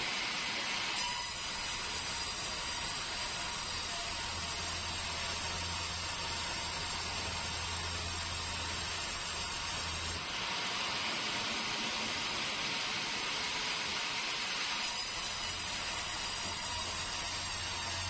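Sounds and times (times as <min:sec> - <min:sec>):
sawmill hiss-like noise: 0:00.0 - 0:18.0.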